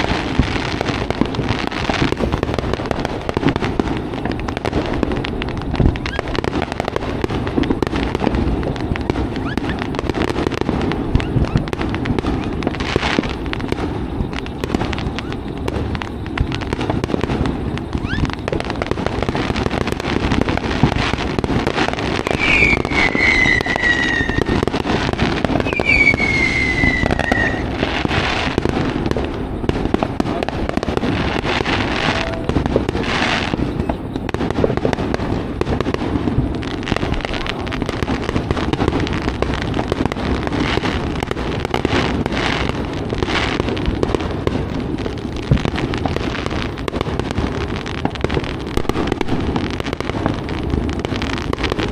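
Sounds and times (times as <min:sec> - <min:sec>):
fireworks popping and crackling: 0:00.0 - 0:51.9
whistling fireworks: 0:00.0 - 0:51.9.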